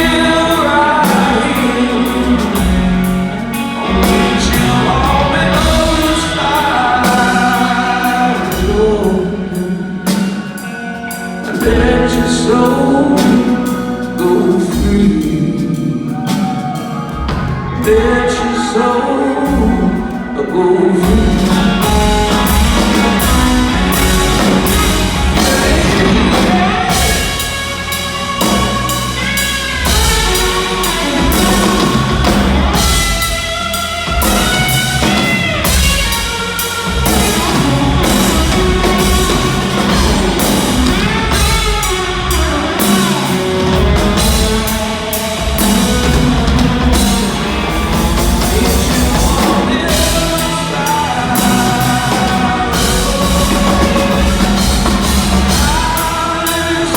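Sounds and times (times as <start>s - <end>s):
drum kit: 0.0s - 56.9s
electric guitar with bent notes: 0.0s - 56.9s.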